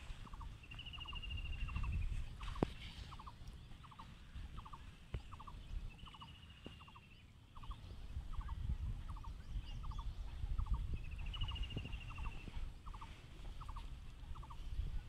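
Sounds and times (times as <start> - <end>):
animal calling: 0.2 - 10.0, 10.6 - 14.7.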